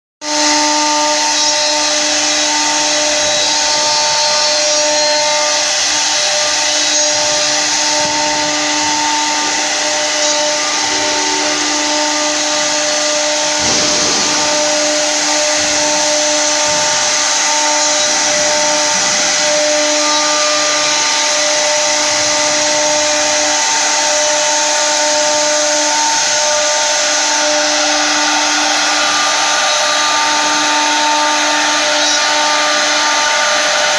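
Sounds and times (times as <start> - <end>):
router spindles whining: 0.2 - 33.9
hiss of wood being cut: 0.7 - 33.9.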